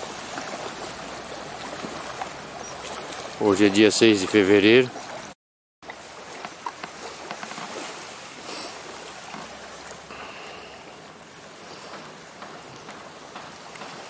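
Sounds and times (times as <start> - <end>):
small waves lapping on sand: 0.0 - 14.0.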